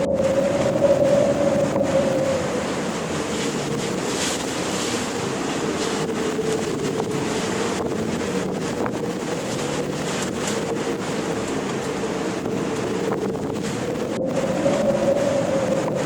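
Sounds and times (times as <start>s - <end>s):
faint steady hum: 0.0s - 16.0s
ocean waves splashing: 0.0s - 16.0s
wind: 0.0s - 16.0s.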